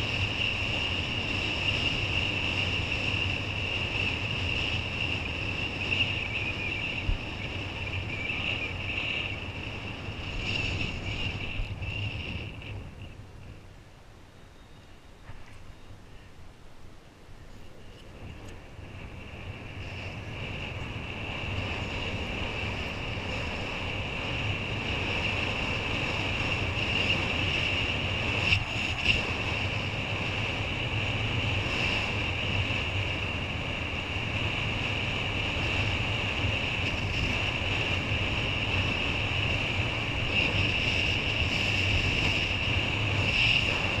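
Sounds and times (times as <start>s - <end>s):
wind rushing over microphone: 0.0s - 13.9s, 17.2s - 44.0s
steady high whine: 0.0s - 44.0s.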